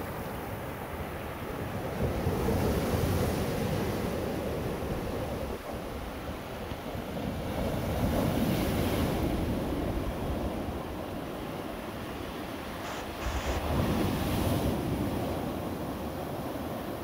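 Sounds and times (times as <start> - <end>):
waves washing up a beach: 0.0 - 17.0.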